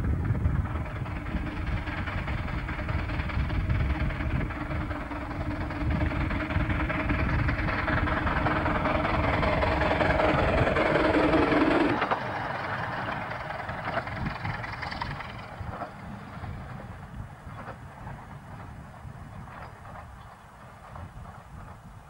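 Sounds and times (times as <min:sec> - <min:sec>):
steam locomotive running rumble: 0:00.0 - 0:22.0.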